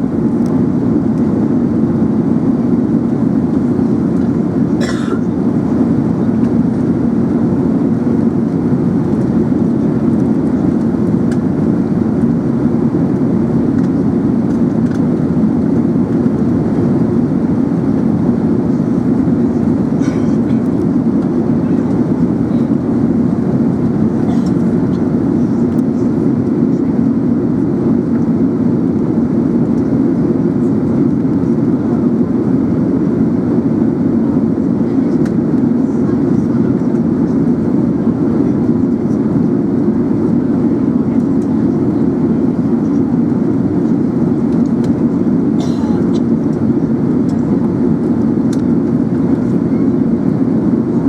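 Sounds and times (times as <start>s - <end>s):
airplane cabin noise: 0.0s - 51.0s.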